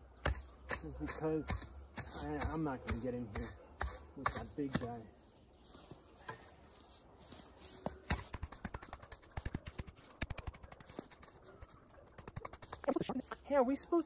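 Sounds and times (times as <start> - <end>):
hand hoe chopping weeds in soil: 0.2 - 13.4.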